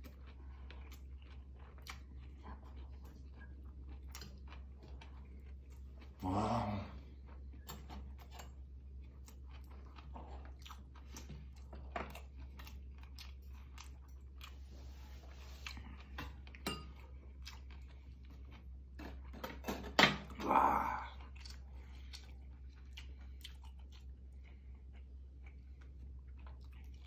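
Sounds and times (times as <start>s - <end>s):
person chewing food: 0.0s - 19.6s, 20.2s - 27.0s.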